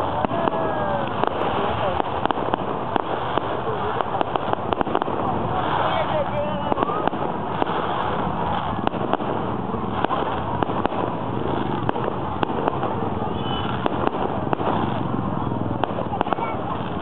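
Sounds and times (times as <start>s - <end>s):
fireworks bangs and crackles: 0.0s - 17.0s
steady rumble: 0.0s - 17.0s.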